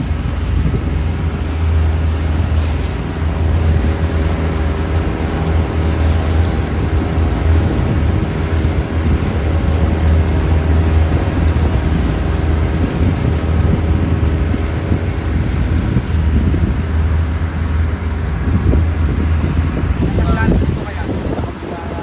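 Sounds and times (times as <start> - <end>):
motorboat engine running: 0.0 - 22.0
wind buffeting microphone: 0.0 - 22.0.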